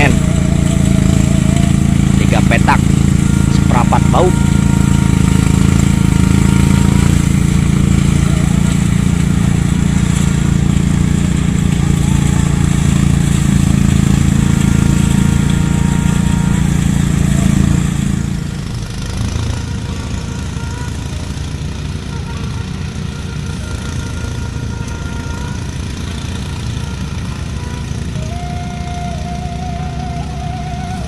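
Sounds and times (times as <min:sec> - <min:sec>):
threshing machine engine running: 0:00.0 - 0:31.0.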